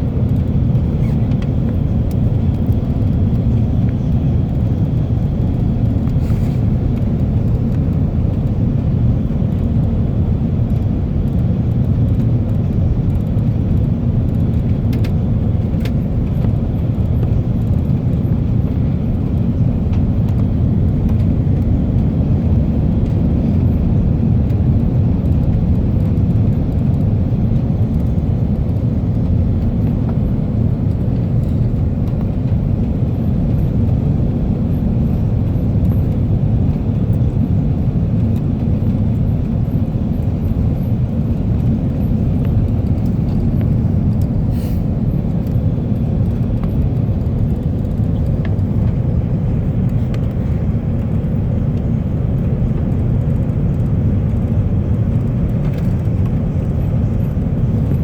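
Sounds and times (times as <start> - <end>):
engines rumbling: 0.0 - 58.0.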